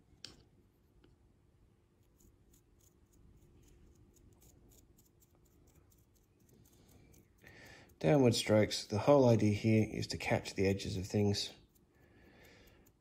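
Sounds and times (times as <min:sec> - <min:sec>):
paintbrush scratching: 0:01.9 - 0:13.0.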